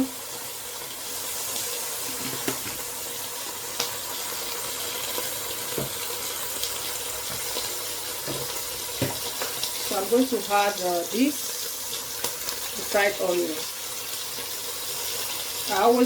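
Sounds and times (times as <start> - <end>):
water pouring into pot: 0.0 - 16.0.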